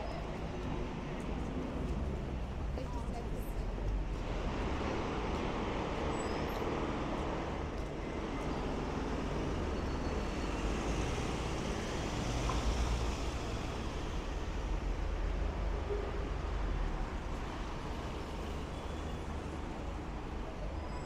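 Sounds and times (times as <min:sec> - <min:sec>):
traffic engines rumbling: 0:00.0 - 0:21.0.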